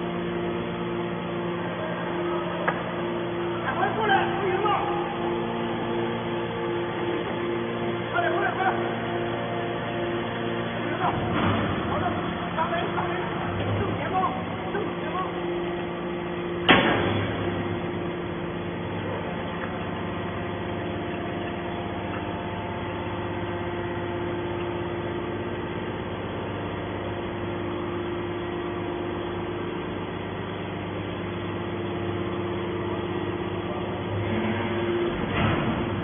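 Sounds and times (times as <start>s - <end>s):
hydraulic power unit humming: 0.0s - 36.0s.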